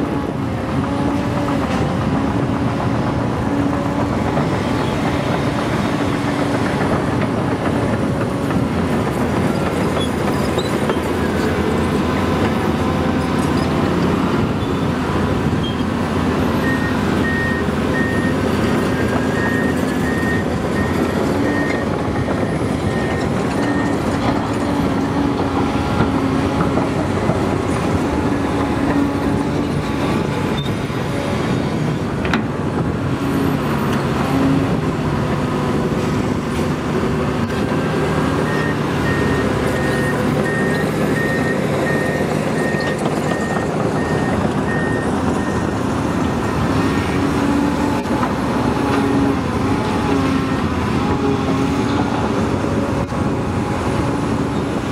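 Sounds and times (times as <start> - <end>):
excavator engine and hydraulics: 0.0 - 54.9.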